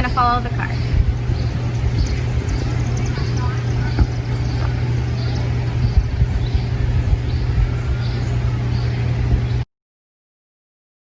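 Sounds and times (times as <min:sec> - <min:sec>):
outdoor background rumble: 0:00.0 - 0:09.7
faint high bird chirps: 0:00.7 - 0:09.6.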